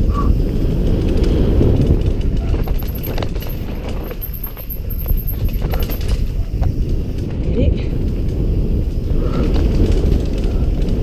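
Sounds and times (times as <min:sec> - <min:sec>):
bike rattles and clicks: 0:00.0 - 0:11.0
bike tyres rolling on dirt: 0:00.0 - 0:11.0
wind buffeting camera: 0:00.0 - 0:11.0.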